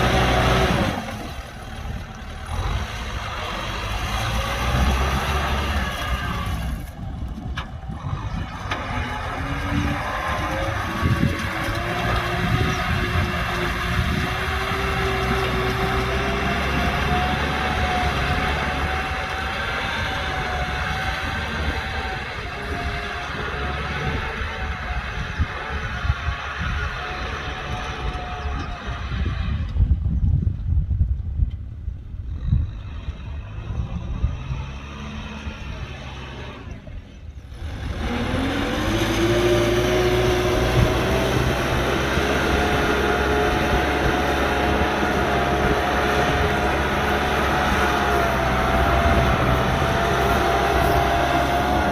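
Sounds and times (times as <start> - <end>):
tractor diesel engine running: 0.0 - 30.6, 31.2 - 51.9.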